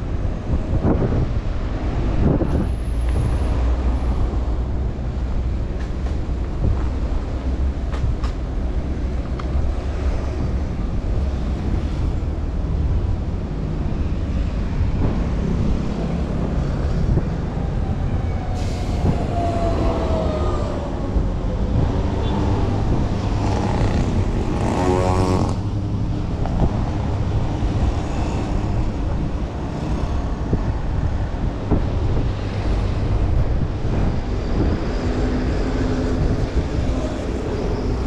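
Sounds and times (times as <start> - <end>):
street traffic rumble: 0.0 - 38.0
wind buffeting microphone: 0.0 - 38.0.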